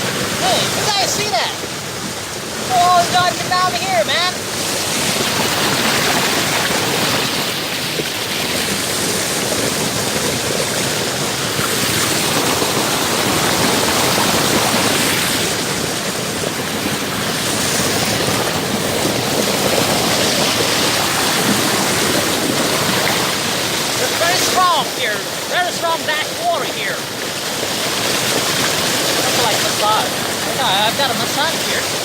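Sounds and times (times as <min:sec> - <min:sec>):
creek water rushing over rocks: 0:00.0 - 0:32.0.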